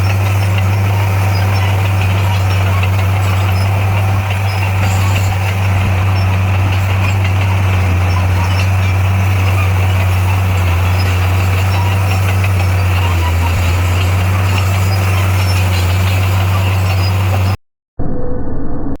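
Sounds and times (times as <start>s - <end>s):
heavy diesel engine running: 0.0s - 17.6s.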